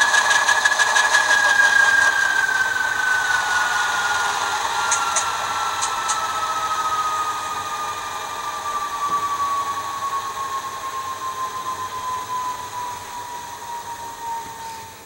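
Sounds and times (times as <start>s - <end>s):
model diesel engine sound: 0.0s - 15.0s.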